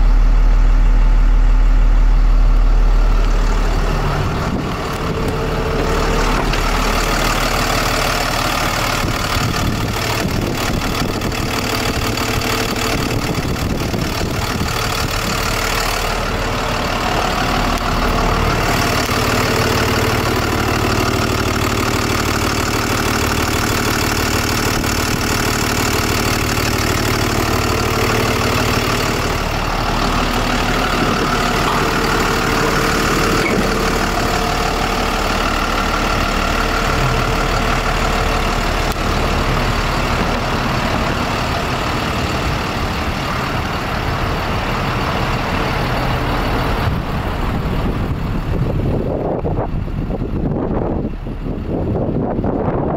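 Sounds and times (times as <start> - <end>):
diesel truck engine idling: 0.0 - 52.9.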